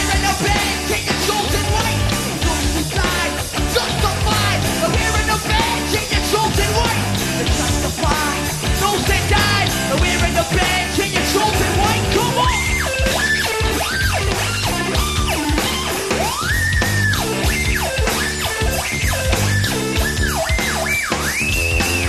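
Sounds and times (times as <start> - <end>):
loud rock music with yelled vocals: 0.0 - 22.0.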